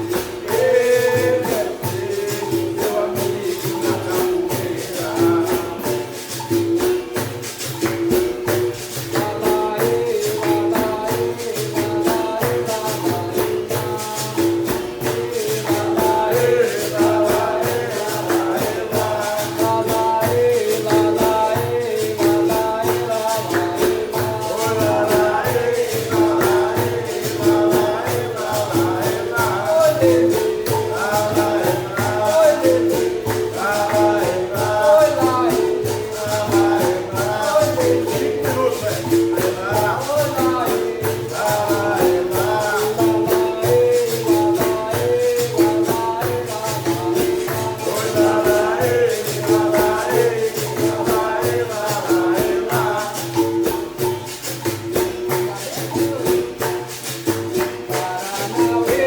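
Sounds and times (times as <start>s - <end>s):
berimbau: 0.0s - 59.0s
pandeiro: 0.0s - 59.0s
voices singing: 0.0s - 59.0s.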